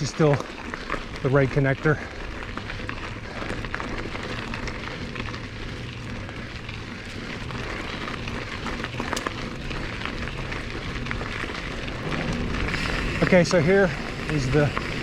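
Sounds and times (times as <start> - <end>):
bike tyres crunching on gravel: 0.0 - 15.0.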